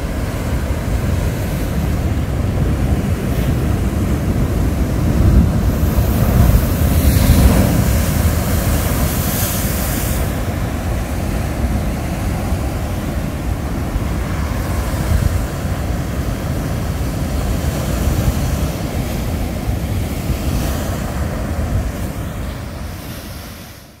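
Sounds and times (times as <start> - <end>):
wind on microphone: 0.0 - 24.0
surf breaking on rocks: 1.8 - 21.1.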